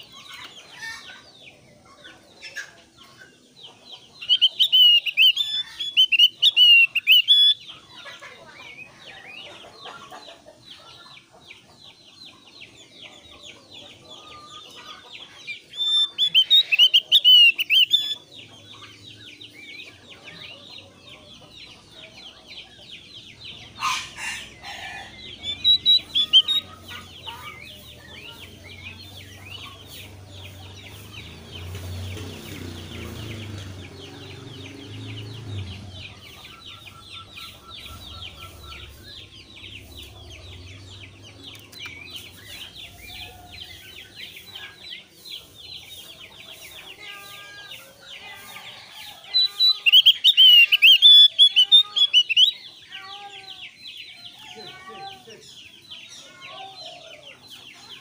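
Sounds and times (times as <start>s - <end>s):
bird harsh chattering song: 2.2s - 58.0s.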